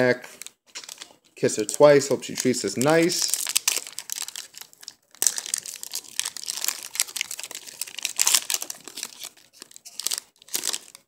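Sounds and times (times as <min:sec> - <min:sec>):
foil wrapper tearing and crinkling: 0:00.8 - 0:11.0.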